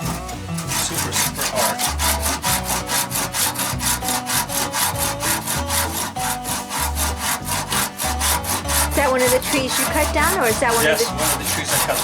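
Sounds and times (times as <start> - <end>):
saw cutting wood: 0.0 - 12.0.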